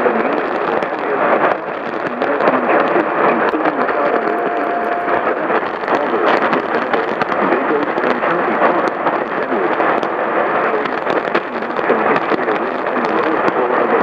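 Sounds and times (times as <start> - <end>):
faint unintelligible voice: 0.0 - 14.0
radio static and crackle: 0.0 - 14.0.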